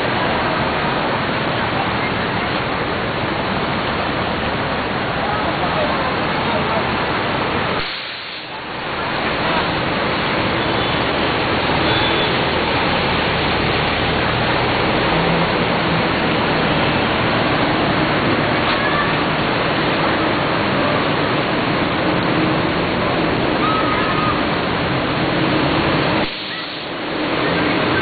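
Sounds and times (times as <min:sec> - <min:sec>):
floodwater rushing: 0:00.0 - 0:28.0
vehicle wading through water: 0:00.0 - 0:28.0.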